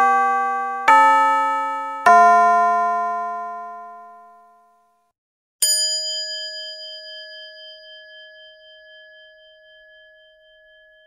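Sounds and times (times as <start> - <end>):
bell-like chime ringing: 0.0 - 4.8, 5.6 - 11.0.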